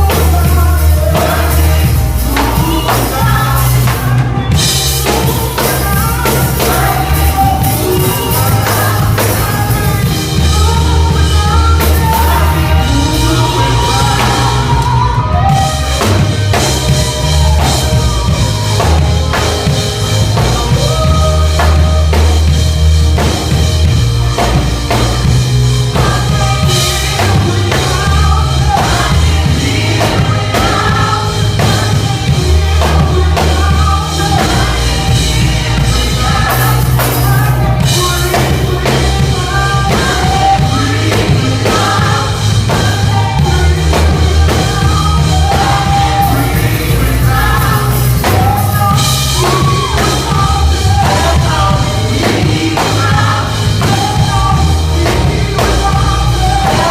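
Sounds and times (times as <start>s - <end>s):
gospel music with singing and band: 0.0s - 56.9s.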